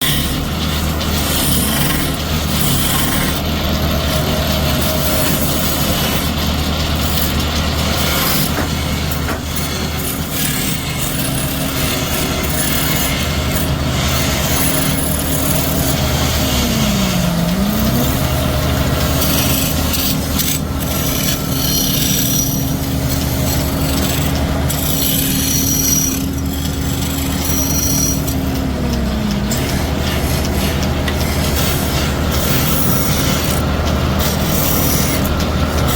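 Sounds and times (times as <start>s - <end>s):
wood being cut: 0.0s - 35.9s
machine motor hum: 0.1s - 35.9s.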